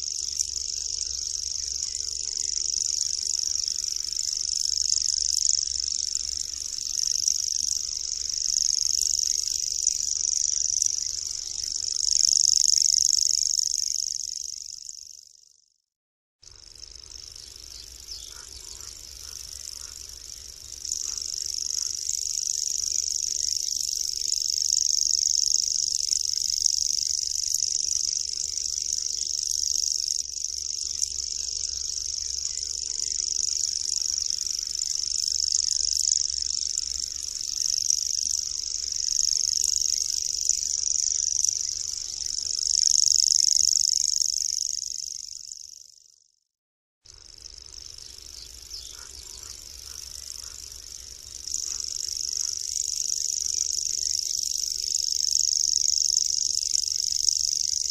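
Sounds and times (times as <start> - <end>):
bird reeling trill: 0.0 - 15.6, 16.5 - 46.3, 47.1 - 57.9.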